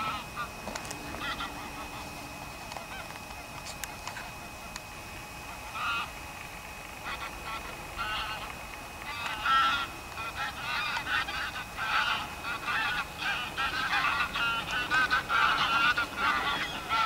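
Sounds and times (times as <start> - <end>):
geese honking in flight: 0.0 - 17.0.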